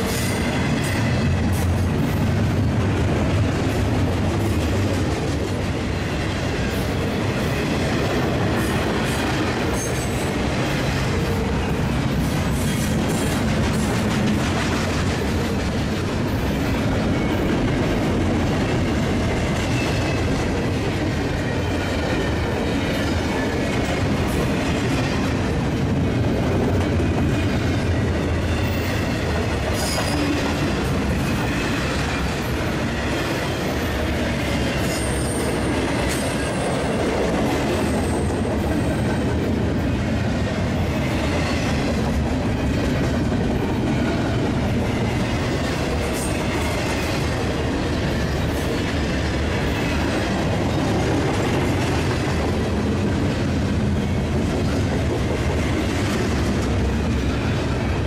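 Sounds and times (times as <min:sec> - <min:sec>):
freight train rumbling: 0:00.0 - 0:58.0.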